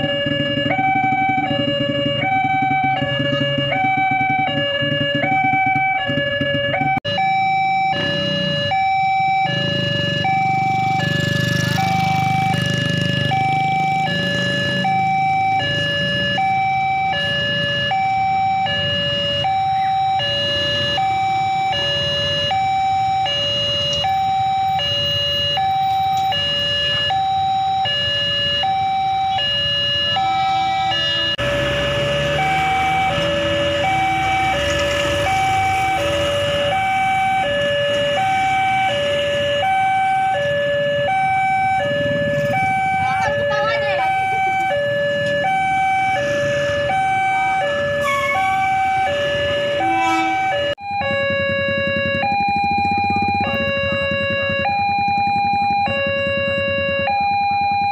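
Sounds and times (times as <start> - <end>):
road traffic noise: 0.0 - 57.9
two-tone crossing alarm: 0.0 - 57.9.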